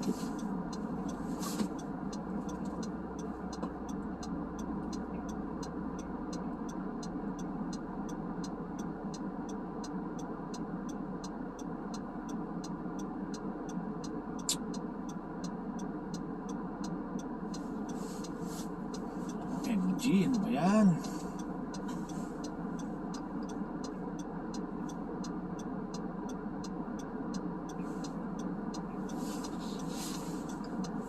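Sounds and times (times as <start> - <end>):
car road and engine noise: 0.0 - 31.0
turn signal ticking: 0.0 - 31.0.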